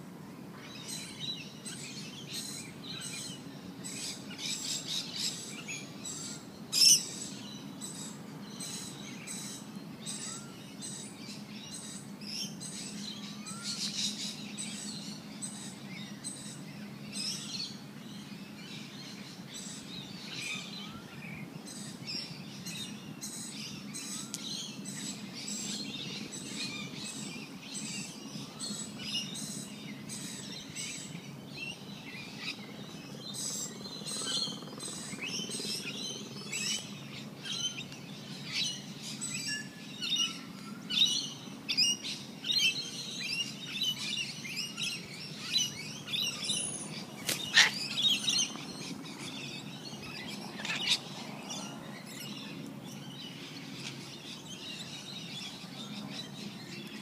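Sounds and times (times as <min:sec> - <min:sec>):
small birds chirping: 0:00.6 - 0:57.0.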